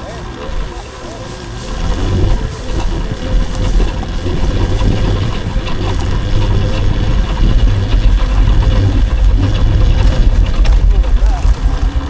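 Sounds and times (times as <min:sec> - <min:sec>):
wind and ground noise rumble: 0:00.0 - 0:12.0.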